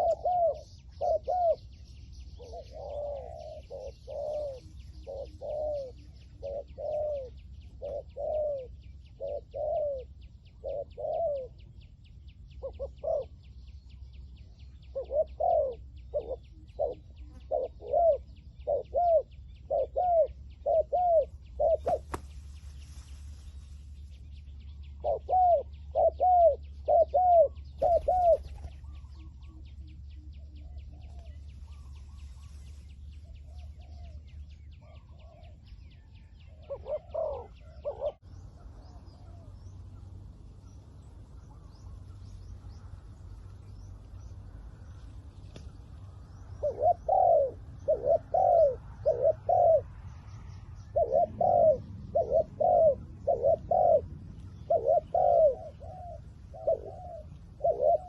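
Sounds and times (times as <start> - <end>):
doves cooing: 0.0 - 11.8, 12.5 - 13.6, 14.8 - 50.0, 50.8 - 58.0.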